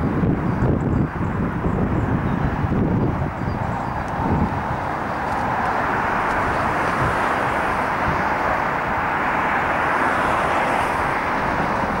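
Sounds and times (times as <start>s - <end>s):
road traffic on a bridge: 0.0s - 12.0s.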